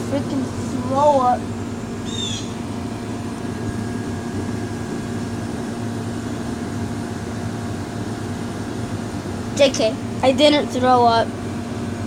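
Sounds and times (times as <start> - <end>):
machinery rumbling and humming: 0.0 - 12.0.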